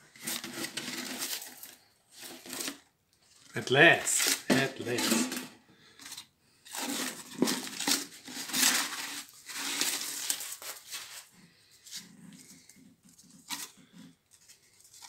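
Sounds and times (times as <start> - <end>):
wet cardboard tearing and scraping: 0.1 - 2.9, 3.8 - 5.3, 6.0 - 15.0.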